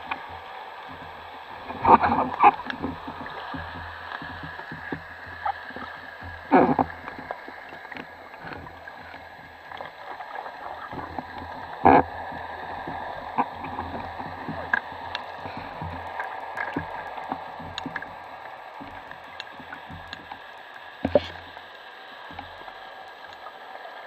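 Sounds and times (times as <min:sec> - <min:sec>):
faint clicks: 0:00.0 - 0:24.0
faint constant whine: 0:00.0 - 0:24.0
gurgling rushes of water: 0:00.0 - 0:24.0
muffled underwater rushing: 0:00.0 - 0:24.0.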